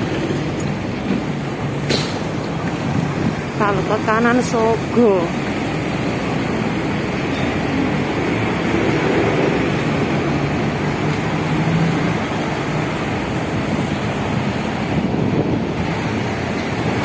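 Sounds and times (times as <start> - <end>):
bus and car engines running: 0.0 - 17.0
city street traffic: 0.0 - 17.0.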